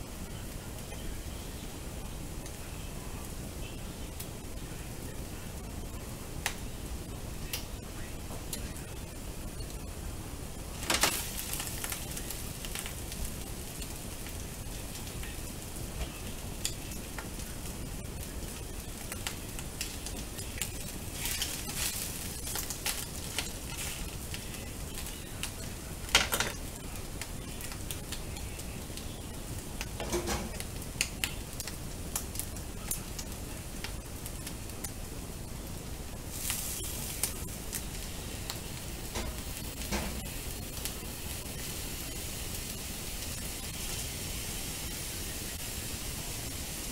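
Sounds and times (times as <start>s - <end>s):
food sizzling in frying pan: 0.0s - 46.9s.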